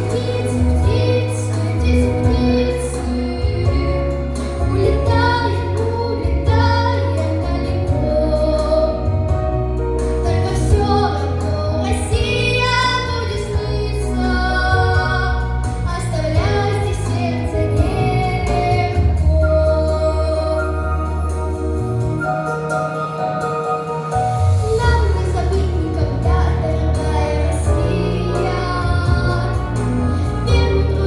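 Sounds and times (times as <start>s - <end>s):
girl singing: 0.0s - 4.0s, 4.6s - 9.3s, 10.2s - 20.9s, 24.7s - 31.0s
backing track with bass line: 0.0s - 31.0s.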